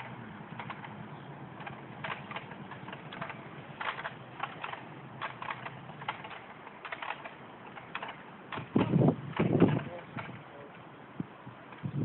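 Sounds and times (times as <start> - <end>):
hand winch ratchet clicking: 0.0 - 1.0, 1.6 - 10.8.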